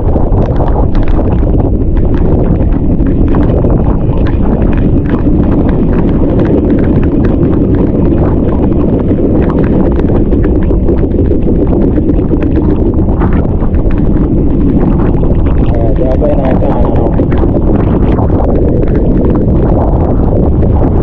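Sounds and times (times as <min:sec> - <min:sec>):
boat engine rumble: 0:00.0 - 0:21.0
hull slapping choppy water: 0:00.0 - 0:21.0.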